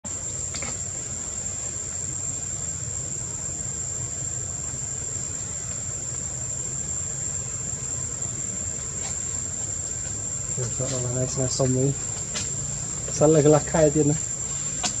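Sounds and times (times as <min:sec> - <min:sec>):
insects droning: 0:00.0 - 0:15.0
low steady rumble: 0:00.1 - 0:14.8.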